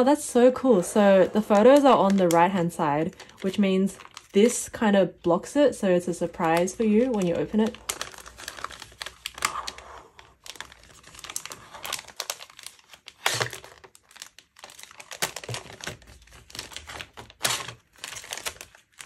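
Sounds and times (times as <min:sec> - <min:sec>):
plastic packaging crinkling: 0:00.0 - 0:04.9, 0:05.8 - 0:19.0.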